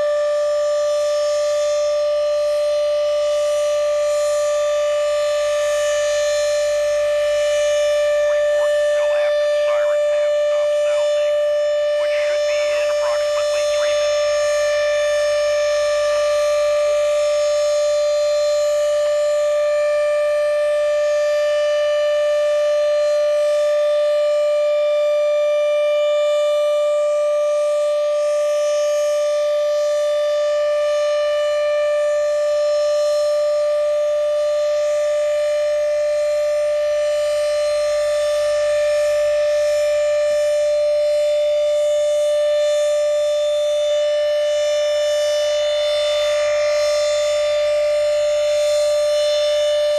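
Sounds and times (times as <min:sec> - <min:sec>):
warning siren steady tone: 0:00.0 - 0:49.9.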